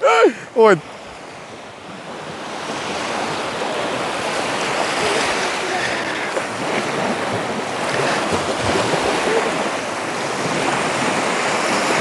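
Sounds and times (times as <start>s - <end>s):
waves washing onto shore: 0.0s - 12.0s
wind buffeting microphone: 0.0s - 12.0s.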